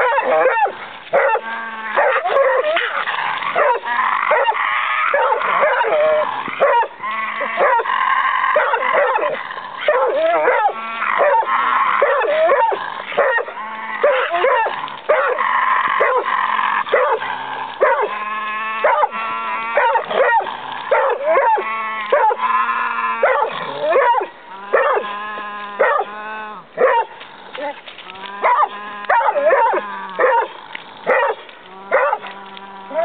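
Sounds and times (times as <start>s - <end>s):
hounds baying: 0.0s - 26.2s, 26.8s - 27.3s, 28.3s - 33.0s.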